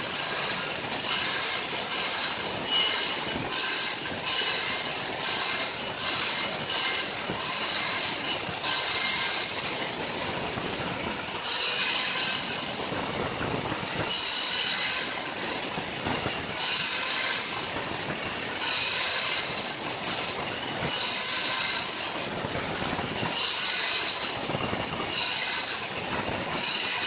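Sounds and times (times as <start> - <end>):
angle grinder grinding stone: 0.0 - 27.0
high grinding screech: 0.0 - 27.0.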